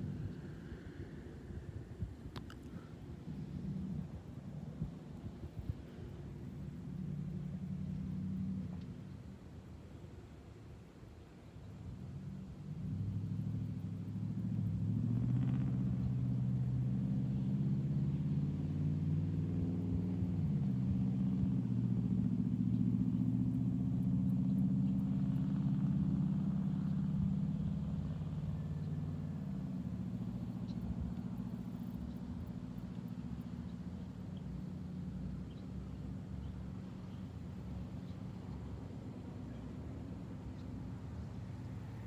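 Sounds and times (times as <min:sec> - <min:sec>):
vehicle engine running: 0:00.0 - 0:01.4, 0:02.7 - 0:09.9, 0:11.9 - 0:42.0.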